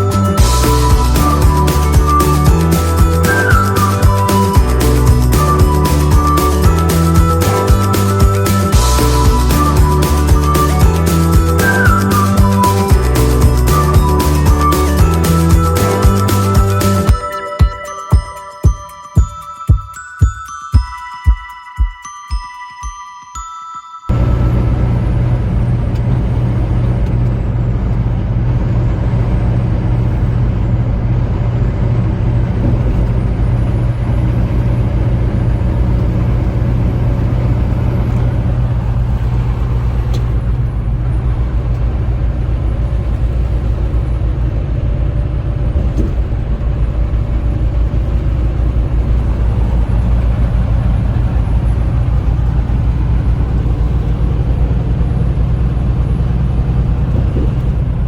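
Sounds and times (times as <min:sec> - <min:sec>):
diesel truck engine drone: 0:00.0 - 0:17.2, 0:24.1 - 0:58.0.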